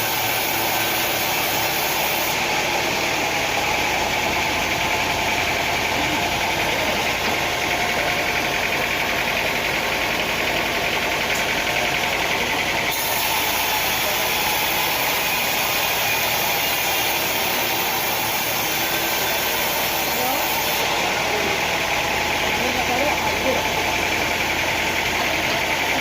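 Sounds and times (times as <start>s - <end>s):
sawmill machinery drone: 0.0s - 26.0s.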